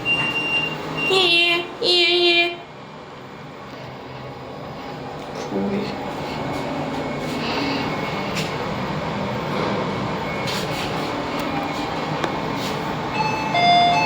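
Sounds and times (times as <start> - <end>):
lift car humming: 0.0 - 14.0.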